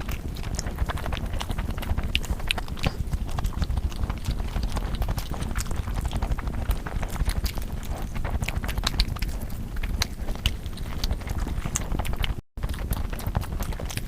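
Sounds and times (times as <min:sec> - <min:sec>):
chewing and mouth clicks: 0:00.0 - 0:14.0.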